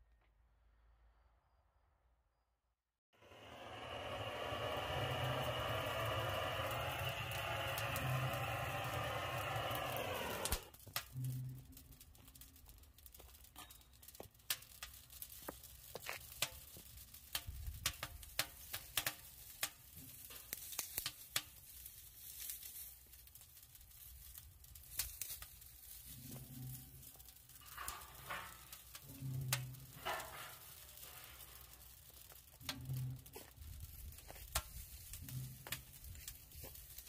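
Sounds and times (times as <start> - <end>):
wood fire crackling and popping: 3.2 - 37.0.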